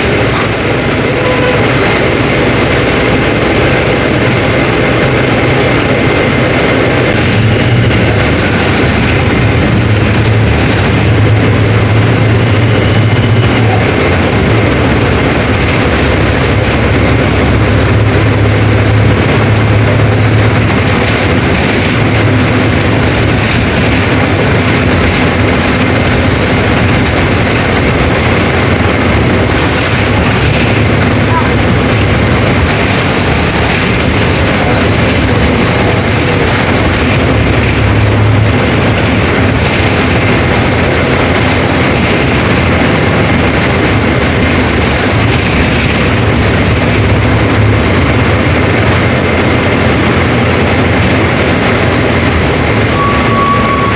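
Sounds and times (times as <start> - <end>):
bus engine rumbling: 0.0 - 53.9
road and body rattle: 0.0 - 53.9.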